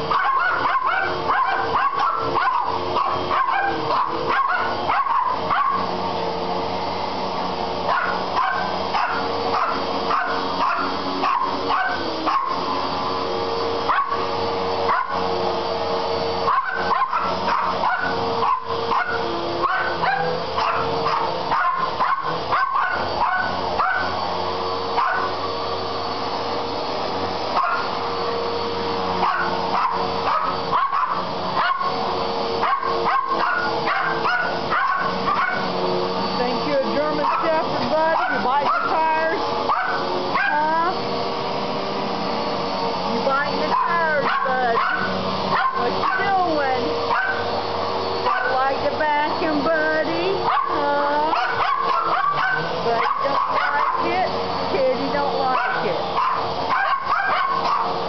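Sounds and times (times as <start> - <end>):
dogs barking and yipping: 0.0 - 58.0
vacuum cleaner motor whine: 0.0 - 58.0.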